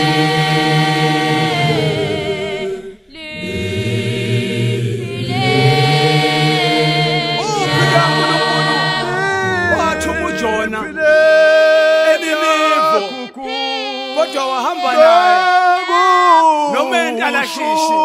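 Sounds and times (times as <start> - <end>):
choir singing a cappella: 0.0 - 18.0.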